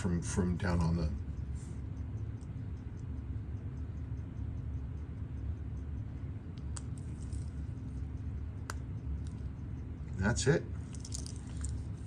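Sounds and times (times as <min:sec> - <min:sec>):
mechanical watch ticking: 0:00.0 - 0:12.0.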